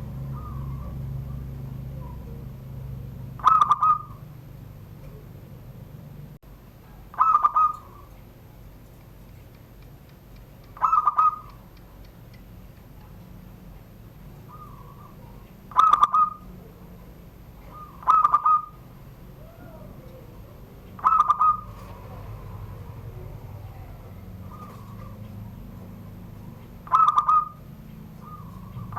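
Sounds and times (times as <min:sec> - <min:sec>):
dove cooing: 0:00.0 - 0:06.0, 0:06.9 - 0:08.3, 0:10.6 - 0:12.1, 0:13.6 - 0:28.9.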